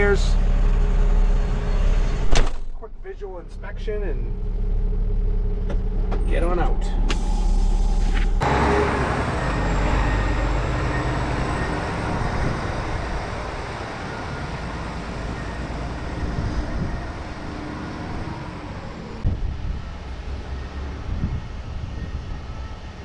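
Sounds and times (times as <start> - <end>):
diesel truck engine rumble: 0.0 - 23.0.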